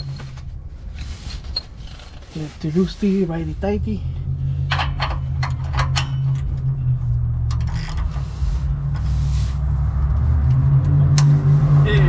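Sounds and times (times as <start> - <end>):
threads scraping and creaking: 0.0 - 11.8
low hum: 0.0 - 12.0.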